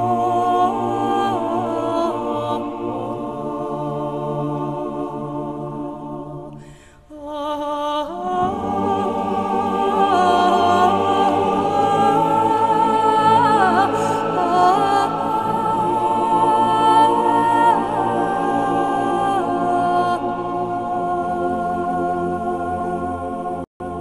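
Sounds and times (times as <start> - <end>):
choir singing long held notes: 0.0 - 24.0.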